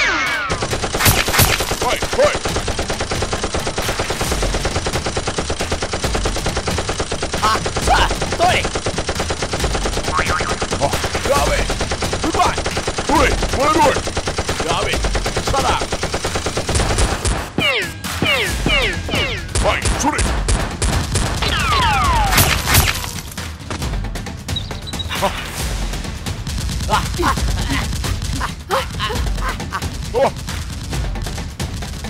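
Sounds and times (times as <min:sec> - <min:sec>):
rapid automatic gunfire effects: 0:00.4 - 0:17.6, 0:18.6 - 0:23.4, 0:26.0 - 0:28.6, 0:29.8 - 0:32.0.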